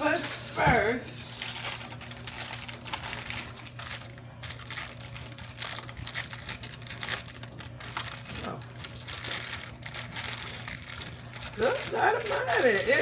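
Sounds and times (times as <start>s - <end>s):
plastic wrapper crinkling: 1.2s - 13.0s.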